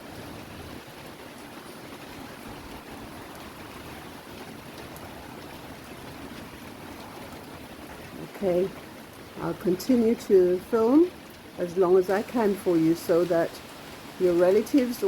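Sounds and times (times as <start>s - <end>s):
steady rain falling: 0.0s - 15.0s
wind in trees: 0.0s - 15.0s.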